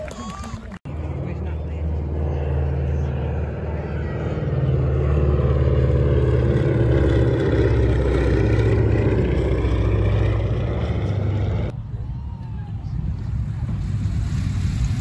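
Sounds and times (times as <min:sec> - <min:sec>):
twin propeller engines droning: 0:00.0 - 0:15.0.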